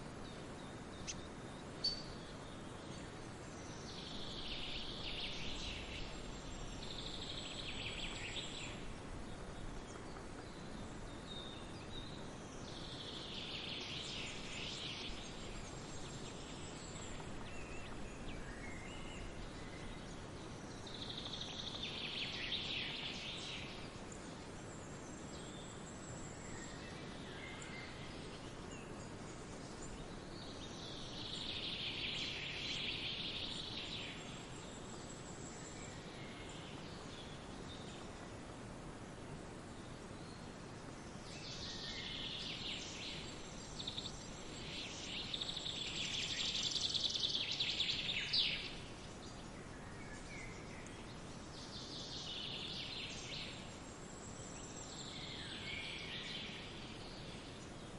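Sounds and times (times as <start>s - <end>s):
outdoor background hiss: 0.0s - 57.9s
songbirds chirping: 0.0s - 57.9s.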